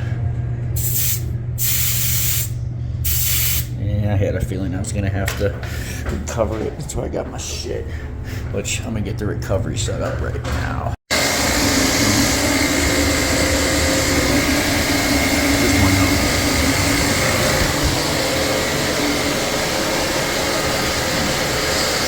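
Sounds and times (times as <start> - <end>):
motor and fan drone: 0.0 - 22.0.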